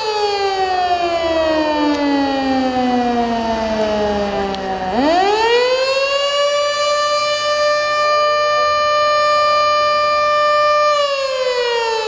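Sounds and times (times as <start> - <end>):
distant second siren winding up: 0.0 - 12.0
fire siren wailing: 0.0 - 12.0.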